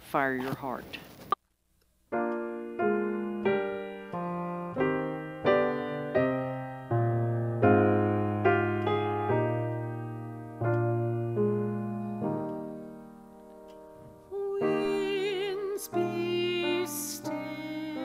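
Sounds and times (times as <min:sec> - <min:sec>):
piano playing slow chords: 0:02.1 - 0:18.0.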